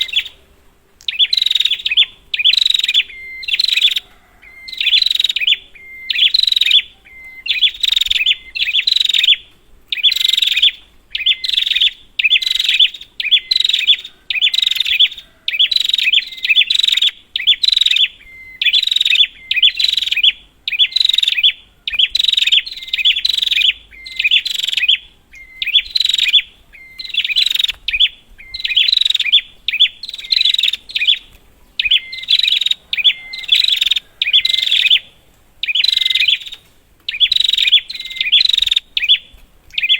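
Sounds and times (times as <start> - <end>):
bird chattering calls: 0.0 - 39.9.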